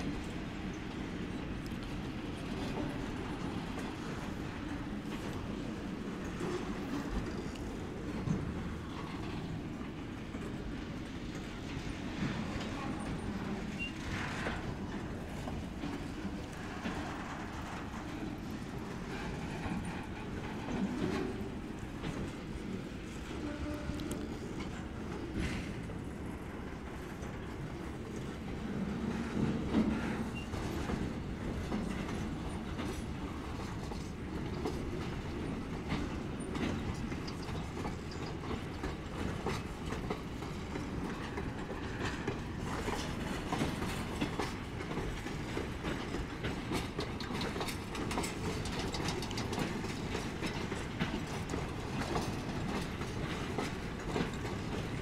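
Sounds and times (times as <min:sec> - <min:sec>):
freight cars rumbling on rails: 0:00.0 - 0:55.0
wheels clicking over rail joints: 0:00.0 - 0:55.0.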